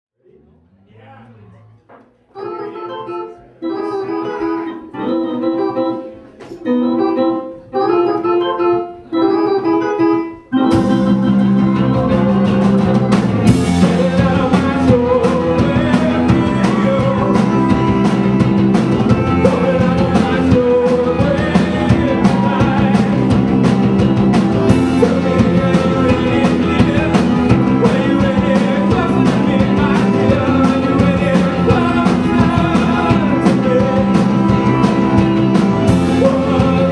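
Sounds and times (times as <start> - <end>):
organ chords: 2.3 - 36.9
rock band playing: 2.4 - 36.9.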